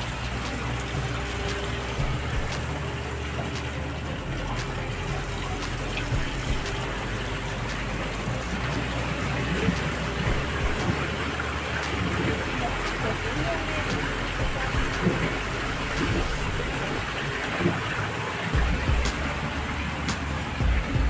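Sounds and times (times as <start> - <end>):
low steady hum: 0.0 - 21.0
seawater pouring into tanks: 0.0 - 21.0.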